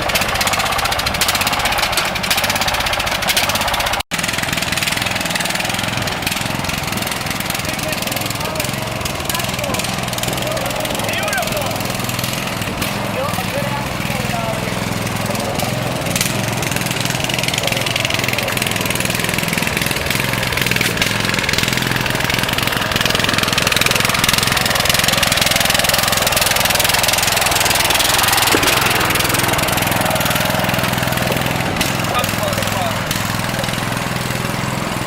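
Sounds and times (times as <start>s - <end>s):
lawn tractor engine running: 0.0s - 35.0s.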